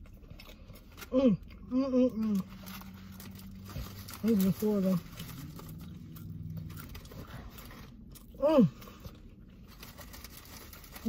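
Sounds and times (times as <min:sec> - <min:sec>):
chewing and biting food: 0:00.0 - 0:11.0.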